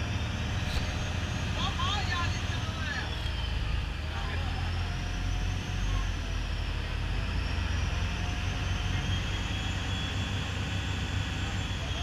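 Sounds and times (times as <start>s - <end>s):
boat engine drone: 0.0s - 12.0s
water rushing along hull: 0.0s - 12.0s.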